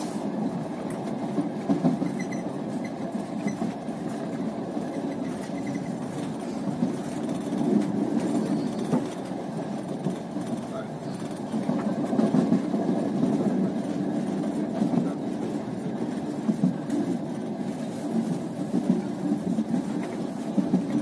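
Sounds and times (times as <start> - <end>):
passenger train rumble: 0.0 - 21.0
wheels clicking over rail joints: 0.8 - 21.0.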